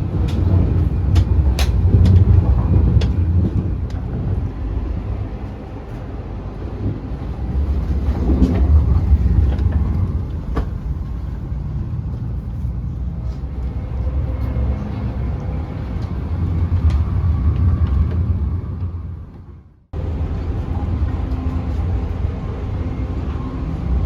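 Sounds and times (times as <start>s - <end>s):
train rumble inside carriage: 0.0s - 24.0s.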